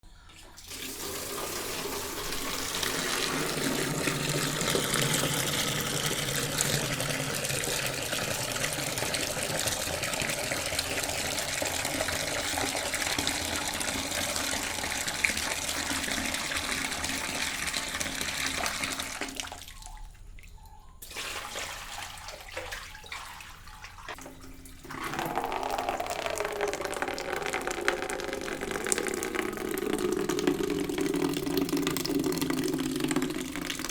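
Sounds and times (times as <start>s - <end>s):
water tap running: 0.6s - 19.6s, 23.6s - 33.9s.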